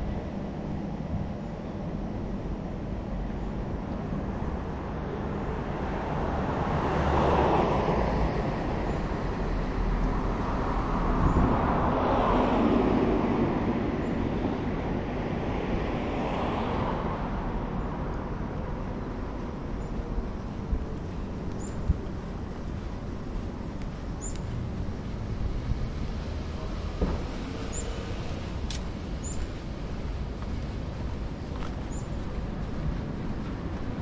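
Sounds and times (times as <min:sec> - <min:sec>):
background street noise: 0:00.0 - 0:34.0
vehicles passing: 0:00.0 - 0:34.0.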